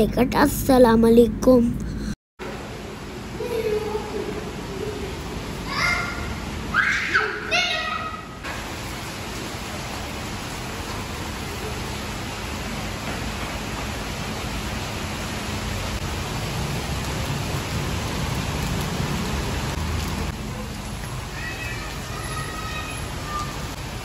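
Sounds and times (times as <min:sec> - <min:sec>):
steady rain on paving: 0:02.4 - 0:24.0.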